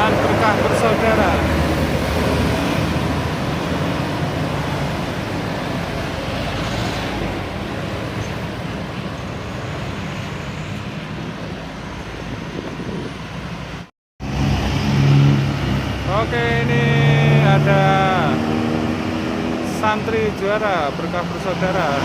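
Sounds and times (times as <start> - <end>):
bus passing: 0.0 - 22.0.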